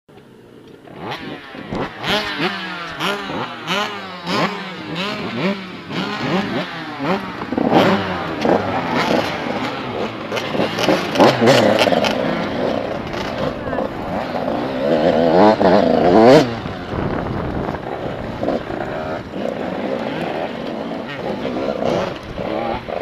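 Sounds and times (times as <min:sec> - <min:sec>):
dirt bike engines revving: 0:00.1 - 0:23.0.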